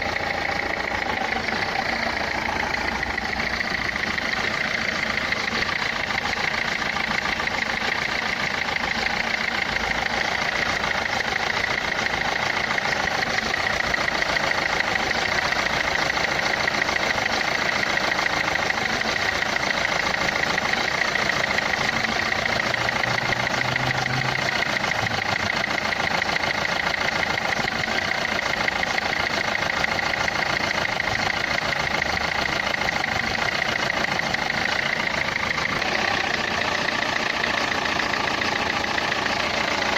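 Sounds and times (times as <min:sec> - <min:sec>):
diesel engine idling clatter: 0:00.0 - 0:39.9.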